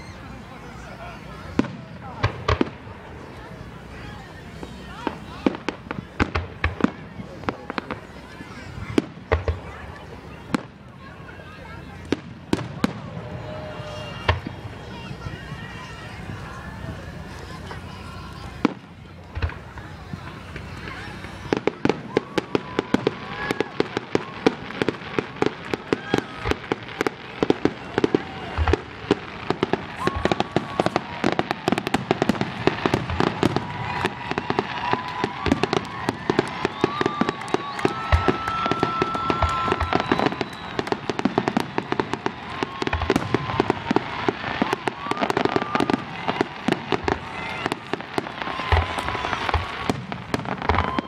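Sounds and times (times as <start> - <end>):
fireworks popping and banging: 0.7 - 51.0.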